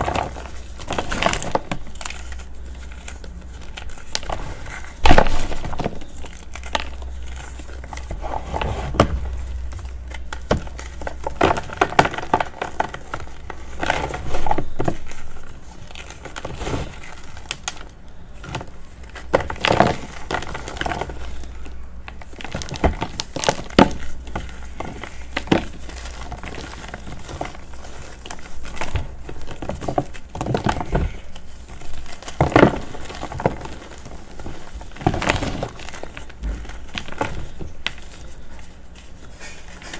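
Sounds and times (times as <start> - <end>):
chalk blocks crunching: 0.0 - 39.9.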